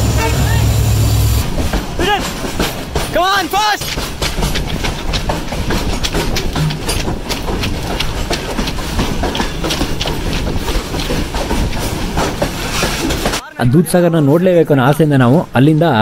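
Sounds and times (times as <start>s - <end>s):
freight train rumbling: 0.0s - 13.4s
wheels clicking on rails: 0.0s - 13.4s.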